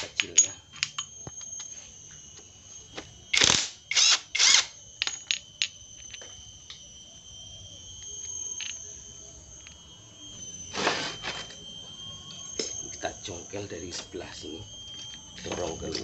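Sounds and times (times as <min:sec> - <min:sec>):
power drill spinning: 0:00.0 - 0:16.0.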